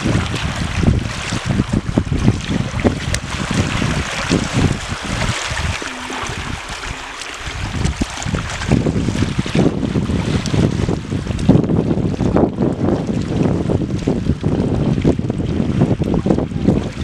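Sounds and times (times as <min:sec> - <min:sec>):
small waves lapping: 0:00.0 - 0:17.0
wind buffeting microphone: 0:00.0 - 0:17.0.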